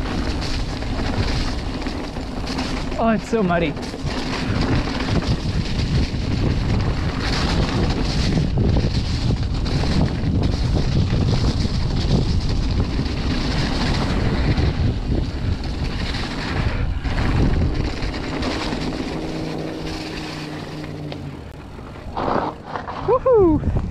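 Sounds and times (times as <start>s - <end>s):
bike tyres rumbling on trail: 0.0s - 23.9s
wind buffeting microphone: 0.0s - 23.9s.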